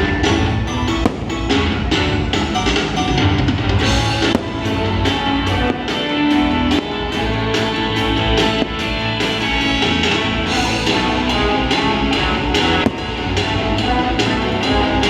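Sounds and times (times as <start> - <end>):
upbeat music with drums and guitar: 0.0 - 15.0.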